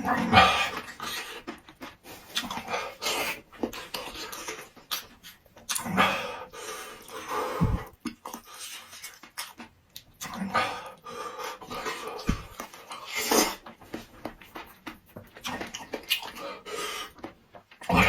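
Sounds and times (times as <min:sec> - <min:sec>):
hard panting breaths: 0:00.0 - 0:05.2, 0:05.8 - 0:09.1, 0:10.2 - 0:18.0
slurping and chewing: 0:00.0 - 0:18.0.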